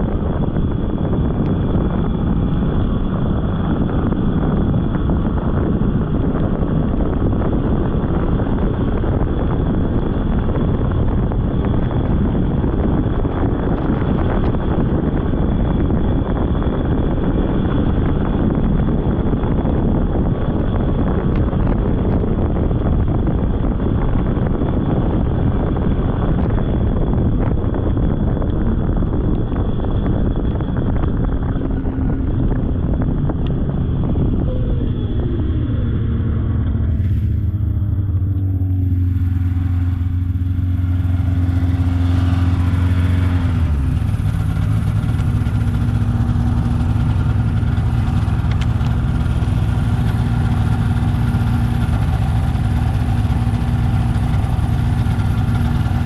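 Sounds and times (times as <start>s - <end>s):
rushing wind-like noise: 0.0s - 56.0s
snowmobile engine running: 0.0s - 56.0s.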